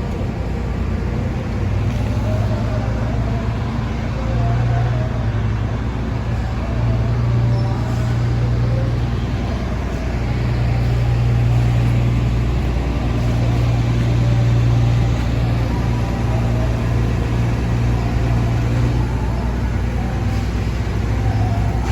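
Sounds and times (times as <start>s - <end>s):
ship engine drone: 0.0s - 21.9s.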